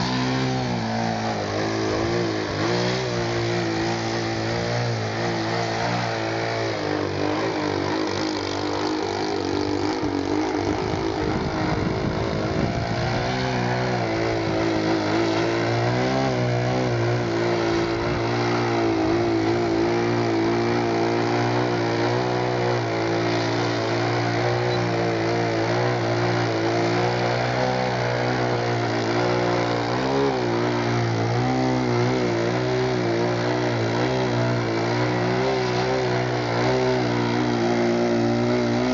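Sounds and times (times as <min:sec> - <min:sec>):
model plane engine and propeller: 0:00.0 - 0:38.9.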